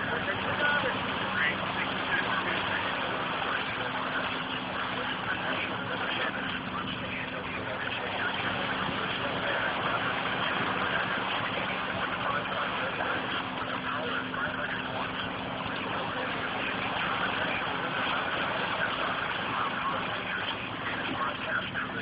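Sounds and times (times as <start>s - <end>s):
boat engine humming: 0.0s - 22.0s
rushing wind and water: 0.0s - 22.0s.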